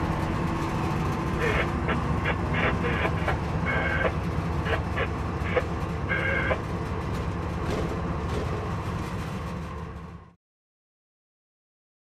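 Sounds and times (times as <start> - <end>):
train rumble: 0.0 - 10.4.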